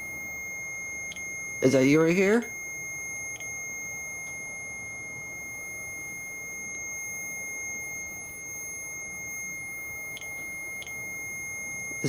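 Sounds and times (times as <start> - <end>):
high-pitched electronic buzzer tone: 0.0 - 12.0.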